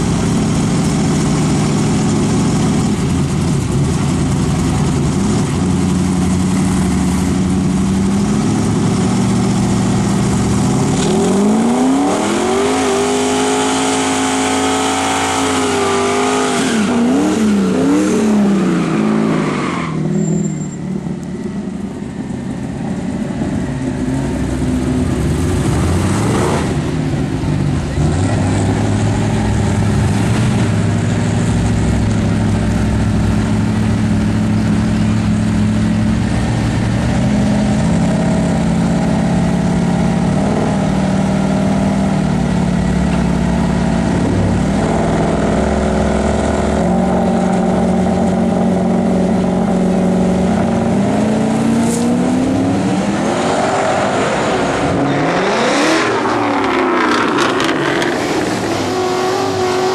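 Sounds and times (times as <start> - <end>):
pickup truck engine revving: 0.0 - 20.4, 23.1 - 59.9.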